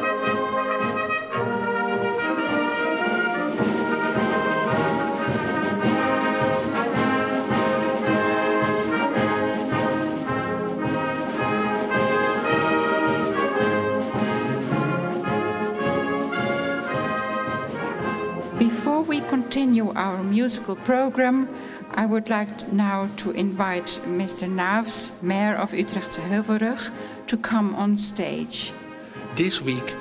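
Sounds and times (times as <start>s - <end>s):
trumpets and trombones: 0.0s - 27.7s, 28.6s - 30.0s
wind band playing: 0.0s - 30.0s.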